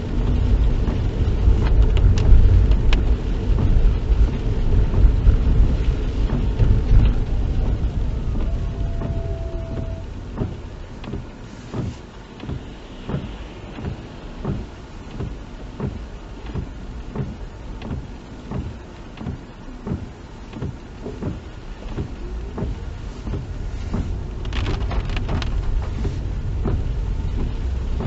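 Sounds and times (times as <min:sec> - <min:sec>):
road and engine rumble: 0:00.0 - 0:28.0.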